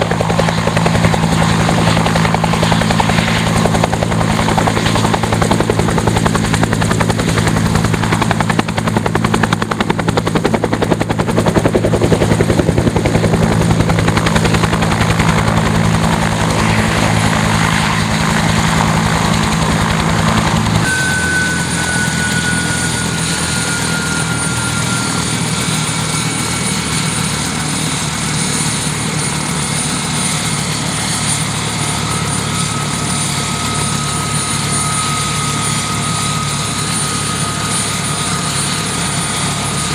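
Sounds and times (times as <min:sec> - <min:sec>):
helicopter rotor beat: 0:00.0 - 0:39.9
high turbine whine: 0:00.0 - 0:39.9
turbine drone: 0:00.0 - 0:39.9.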